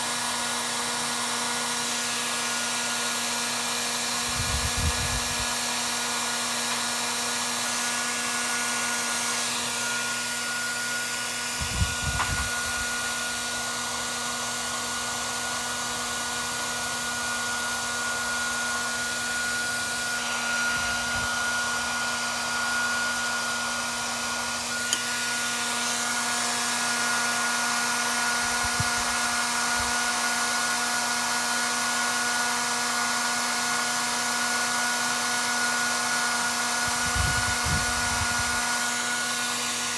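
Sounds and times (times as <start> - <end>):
small electric motor whining: 0.0 - 39.9.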